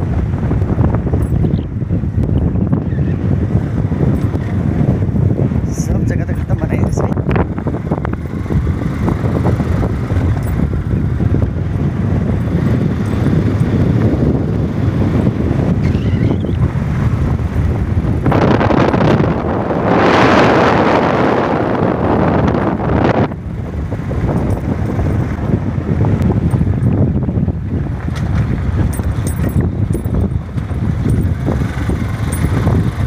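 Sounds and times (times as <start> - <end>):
vehicle rumble: 0.0 - 33.0
wind buffeting microphone: 0.0 - 33.0.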